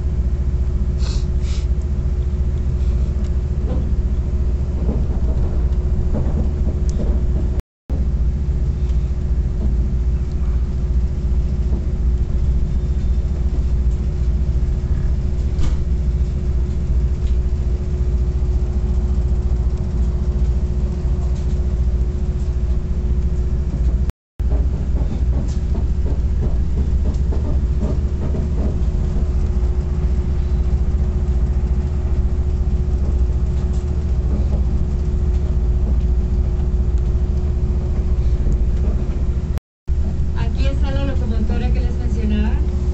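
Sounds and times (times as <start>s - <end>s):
train rumble from on board: 0.0s - 42.9s.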